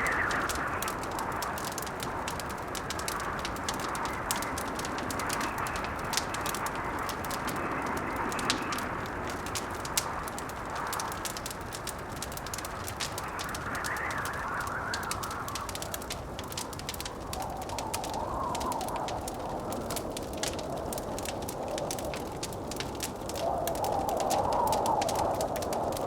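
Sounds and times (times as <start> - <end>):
blizzard wind howling: 0.0 - 26.0
wood fire crackling: 0.0 - 26.0.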